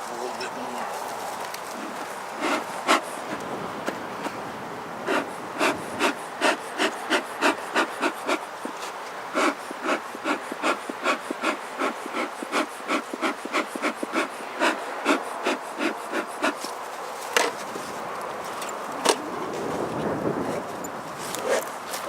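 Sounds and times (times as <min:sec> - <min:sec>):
bellows puffing: 0:00.0 - 0:04.4, 0:05.0 - 0:22.0
bees buzzing: 0:00.0 - 0:22.0.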